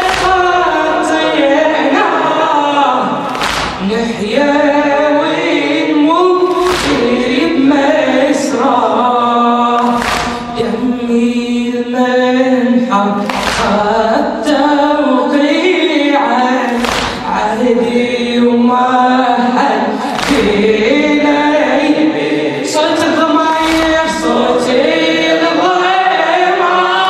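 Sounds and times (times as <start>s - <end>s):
congregation chanting in unison: 0.0s - 27.0s.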